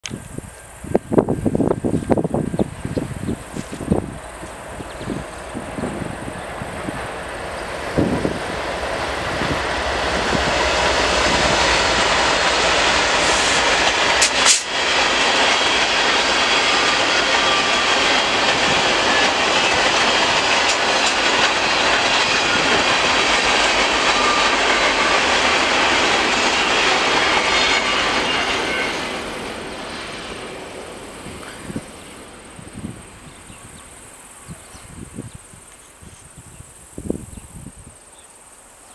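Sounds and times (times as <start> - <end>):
freight train wheels on rails: 0.1 - 37.4.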